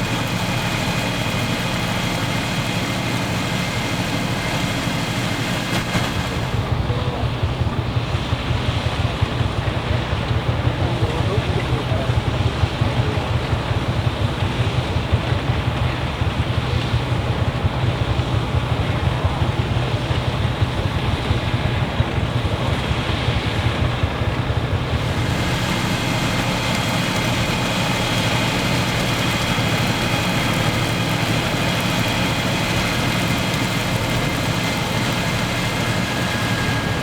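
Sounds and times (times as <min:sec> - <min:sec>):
high machinery whine: 0:00.0 - 0:37.0
threshing machinery running: 0:00.0 - 0:37.0
tractor engine running: 0:00.0 - 0:37.0.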